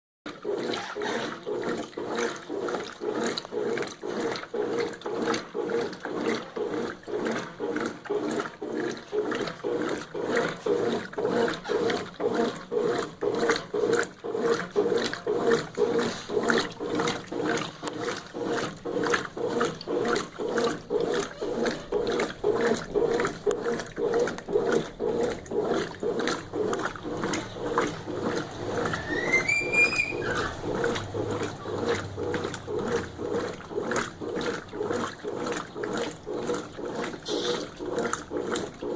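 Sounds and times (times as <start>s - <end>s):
washing machine agitator swishing water: 0.3s - 38.9s
washing machine motor: 0.3s - 38.9s.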